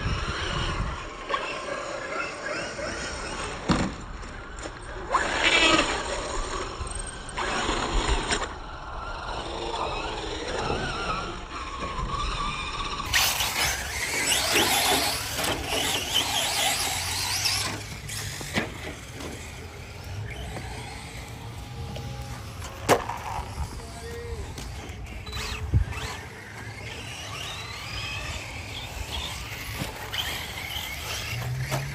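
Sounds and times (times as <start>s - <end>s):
electric rc cars whining: 0.0s - 31.9s.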